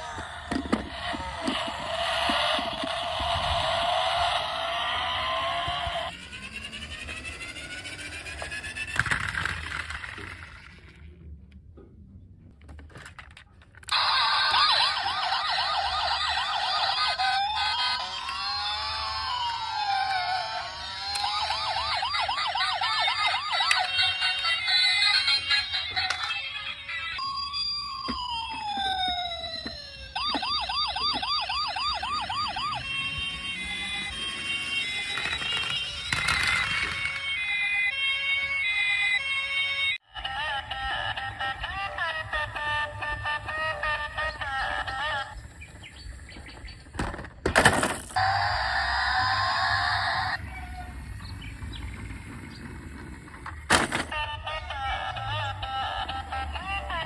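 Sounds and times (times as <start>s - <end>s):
fast yelping siren wail: 0.0s - 9.0s, 13.9s - 46.6s, 48.2s - 57.0s
toy siren rising tones: 0.0s - 11.0s, 13.9s - 47.2s, 47.9s - 57.0s.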